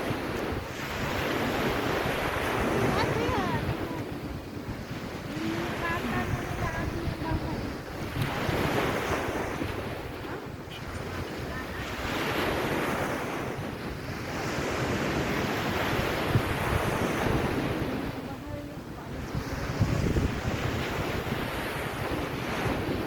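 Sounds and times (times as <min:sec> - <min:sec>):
sea waves washing ashore: 0:00.0 - 0:23.0
wind rumbling on microphone: 0:00.0 - 0:23.0.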